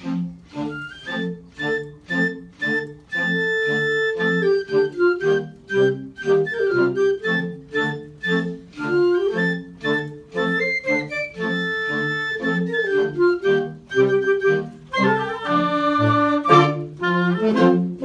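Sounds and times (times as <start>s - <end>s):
clarinets playing a march: 0.0s - 18.0s.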